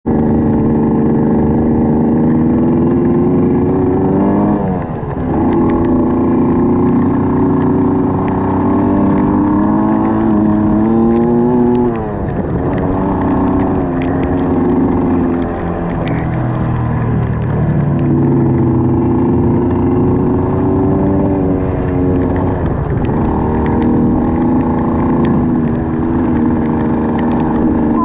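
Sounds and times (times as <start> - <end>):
engine running: 0.1 - 28.0.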